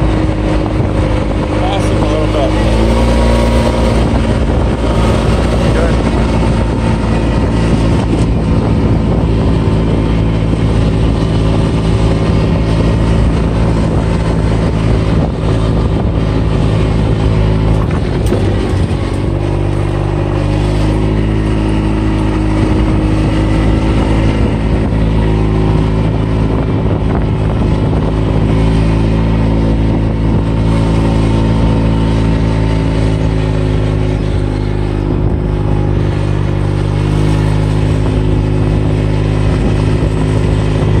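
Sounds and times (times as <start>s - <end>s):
utility vehicle engine running: 0.0s - 41.0s.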